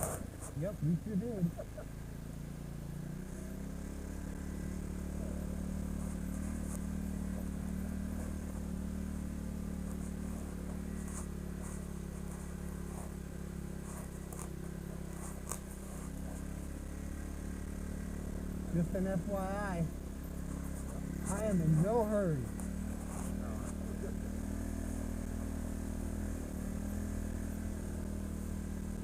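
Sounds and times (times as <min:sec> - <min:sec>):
atv engine running at low speed: 0:00.0 - 0:29.0.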